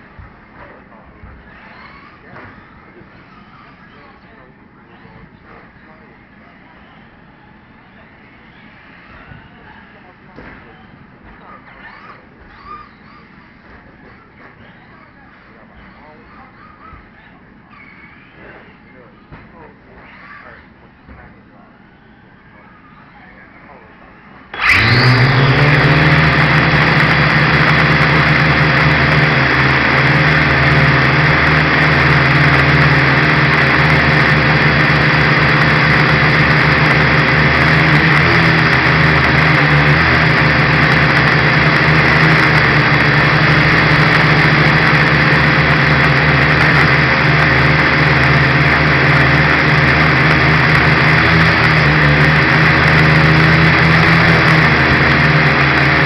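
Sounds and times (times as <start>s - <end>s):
quadcopter propellers whirring: 0.0s - 56.0s.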